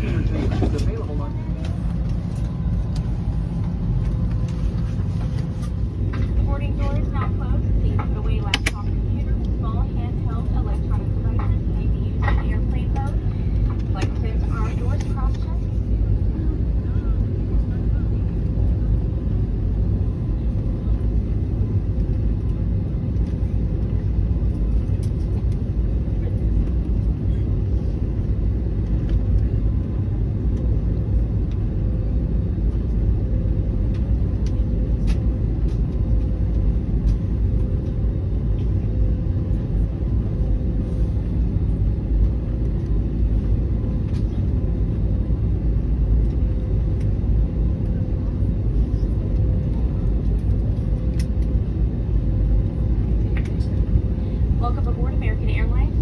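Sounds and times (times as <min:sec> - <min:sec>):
airplane cabin rumble: 0:00.0 - 0:56.0
faint steady hum: 0:00.0 - 0:56.0.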